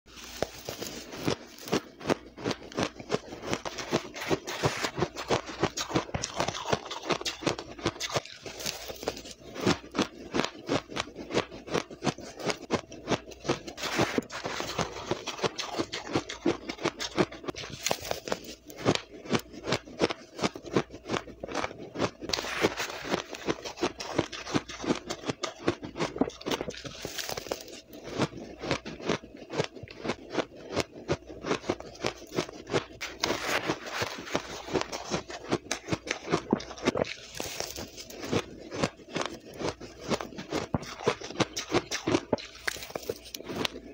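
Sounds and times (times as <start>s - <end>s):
spoon scraping ice in plastic pot: 0.1s - 9.9s, 11.8s - 19.7s, 21.6s - 29.4s, 31.3s - 43.9s
ice being crunched and chewed: 0.1s - 43.9s.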